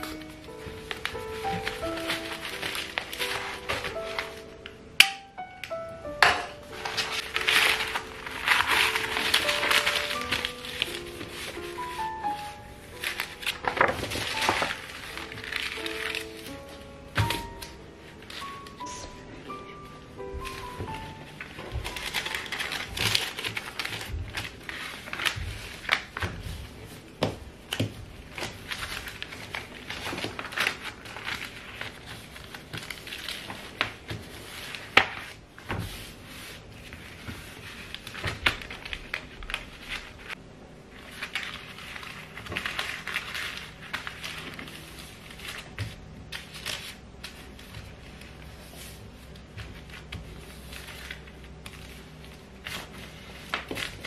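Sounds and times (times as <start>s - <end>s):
paper rustling and crinkling: 0.0s - 54.0s.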